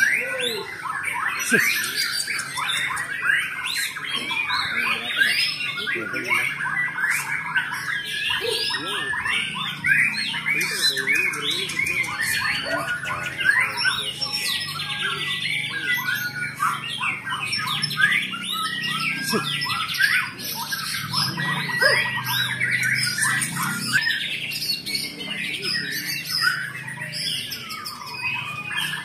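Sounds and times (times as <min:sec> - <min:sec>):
many songbirds singing: 0:00.0 - 0:29.0.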